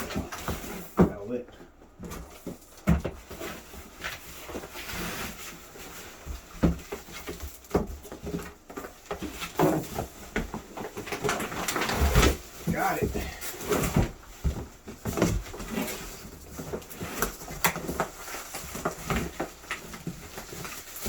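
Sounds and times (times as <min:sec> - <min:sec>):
cardboard rustling and scraping: 0:00.0 - 0:21.0.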